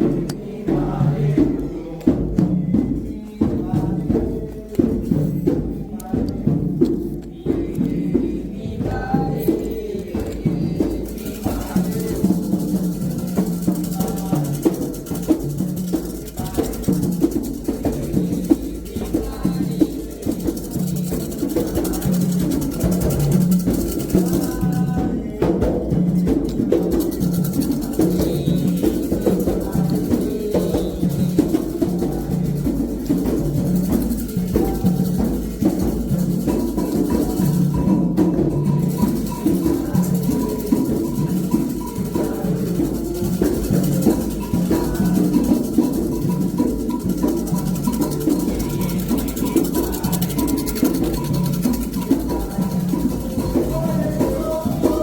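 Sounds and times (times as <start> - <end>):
hand drums rhythm: 0.0 - 55.0.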